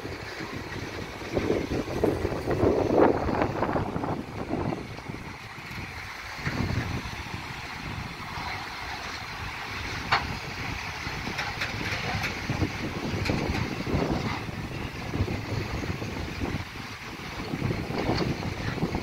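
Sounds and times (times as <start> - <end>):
train wheels rumbling on rails: 0.0 - 19.0
wheels clicking: 0.0 - 19.0.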